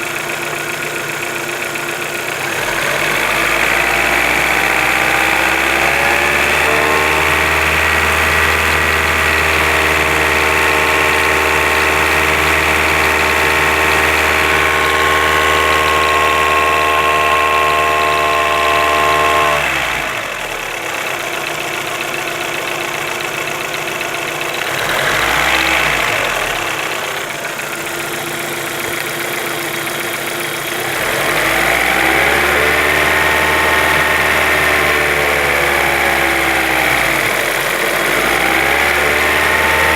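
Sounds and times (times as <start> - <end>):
car engine revving: 2.3 - 39.9.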